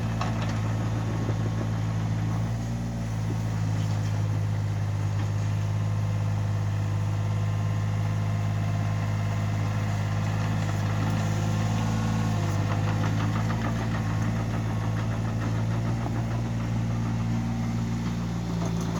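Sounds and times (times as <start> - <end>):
backhoe diesel engine running: 0.0 - 18.9.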